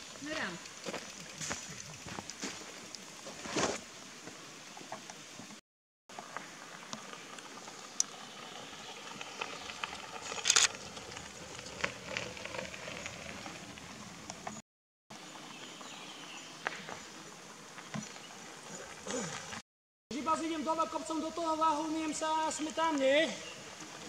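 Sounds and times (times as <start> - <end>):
bike tyres crunching on gravel: 0.0 - 3.8, 6.2 - 14.6, 15.8 - 19.6, 20.2 - 24.0.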